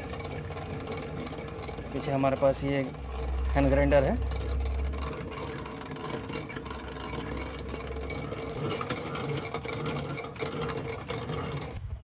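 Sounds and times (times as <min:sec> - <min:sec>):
coil winding machine humming: 0:00.0 - 0:12.0.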